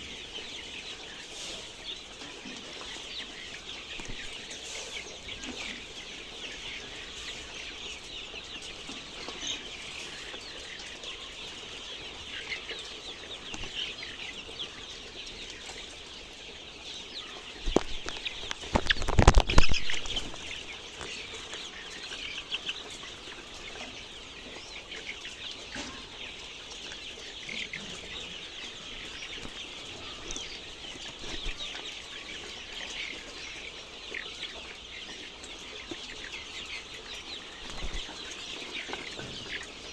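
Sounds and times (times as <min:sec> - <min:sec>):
chickens clucking and cheeping: 0:00.0 - 0:39.9.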